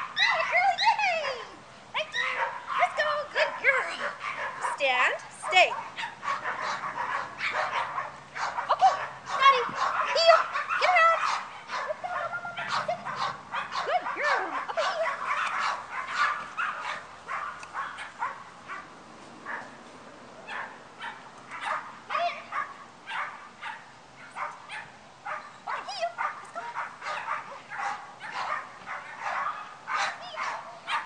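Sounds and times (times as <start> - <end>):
dog barking and yipping: 0.0 - 1.0, 2.0 - 18.9, 19.5 - 19.8, 20.4 - 31.0.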